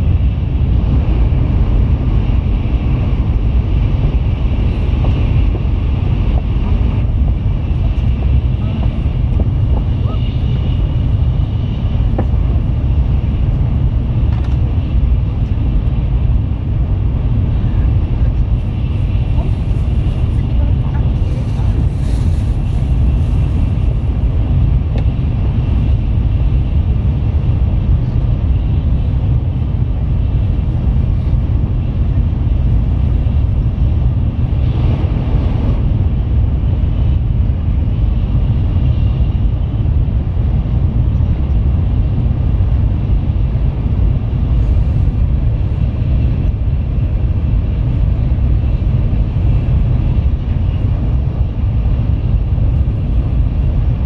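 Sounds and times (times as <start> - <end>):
rushing noise: 0.0 - 54.0
train running at speed: 0.0 - 54.0.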